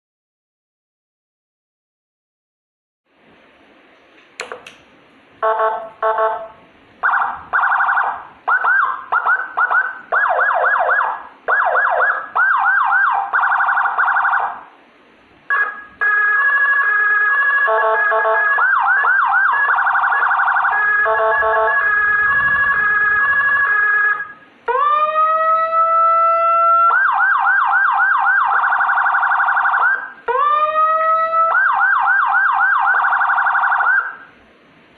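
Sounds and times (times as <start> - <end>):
electronic emergency siren: 5.4 - 14.7, 15.5 - 34.3.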